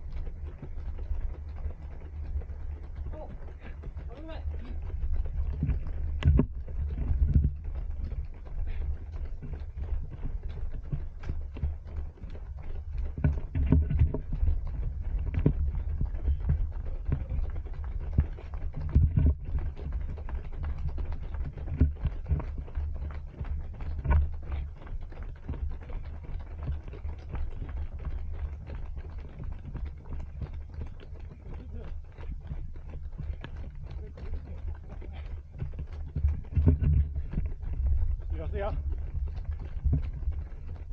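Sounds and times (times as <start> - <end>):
running footsteps: 0.0 - 40.9.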